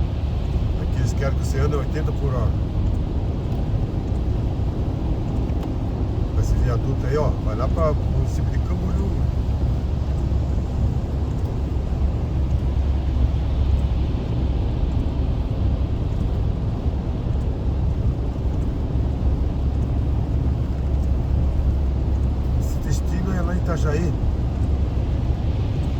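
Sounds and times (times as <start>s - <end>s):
car driving on wet road: 0.0s - 25.9s.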